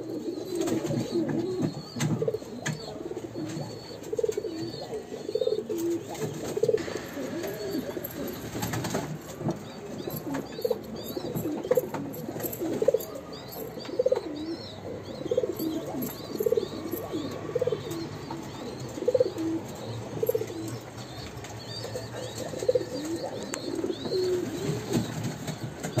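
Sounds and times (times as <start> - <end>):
pigeons cooing: 0.0 - 26.0
small birds chirping faintly: 0.1 - 26.0.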